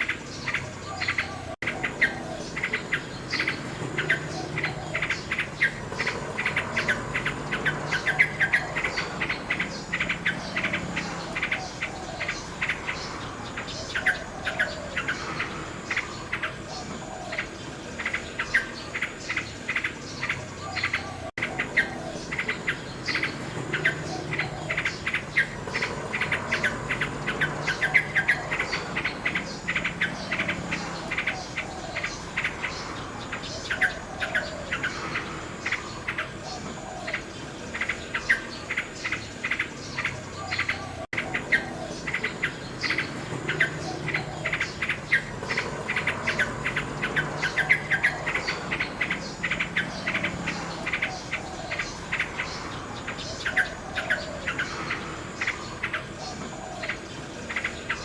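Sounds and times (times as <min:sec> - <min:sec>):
crickets chirring: 0:00.0 - 0:58.0
nightingale singing: 0:00.0 - 0:58.0.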